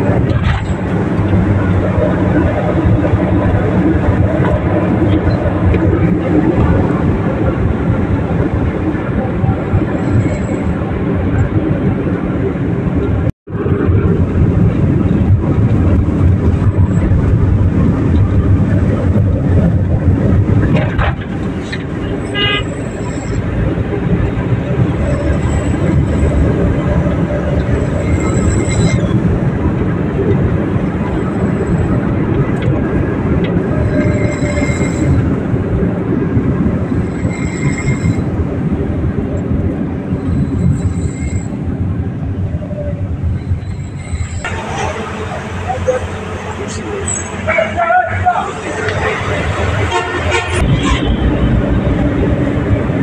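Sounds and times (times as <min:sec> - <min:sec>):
car cabin road and engine noise: 0:00.0 - 0:53.0.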